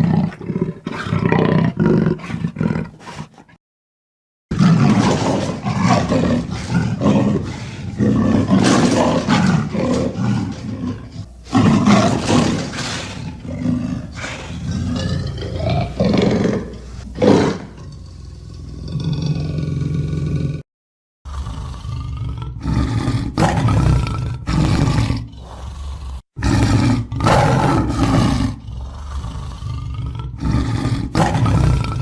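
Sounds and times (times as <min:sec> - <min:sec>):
big cat roaring and growling: 0:00.0 - 0:03.6, 0:04.5 - 0:20.6, 0:21.3 - 0:32.0.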